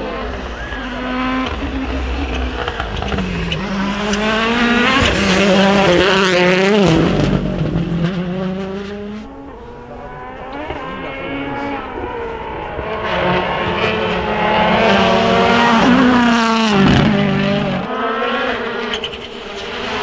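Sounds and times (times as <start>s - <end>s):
rally car engines revving hard: 0.0s - 20.0s.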